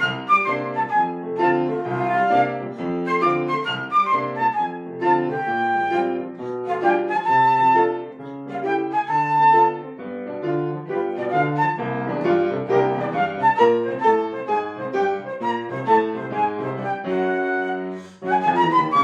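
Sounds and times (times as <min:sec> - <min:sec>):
piano accompaniment: 0:00.0 - 0:19.0
solo woodwind melody: 0:00.0 - 0:19.0.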